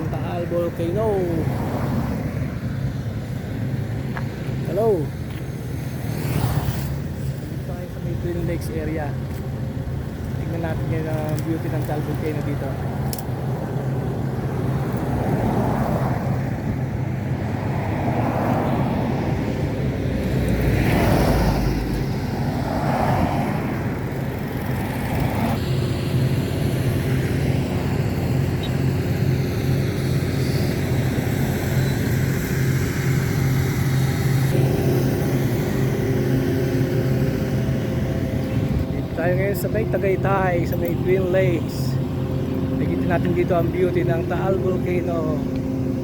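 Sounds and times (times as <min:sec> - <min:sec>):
road traffic engines humming: 0:00.0 - 0:46.0.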